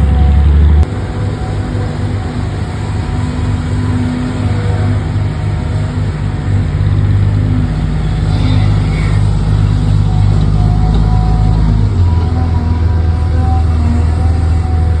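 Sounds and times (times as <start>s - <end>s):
heavy vehicle engine running: 0.0s - 15.0s.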